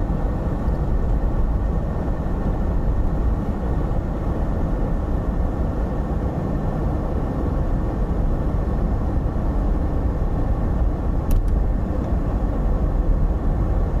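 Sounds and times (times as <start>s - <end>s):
car cabin road and engine rumble: 0.0s - 14.0s.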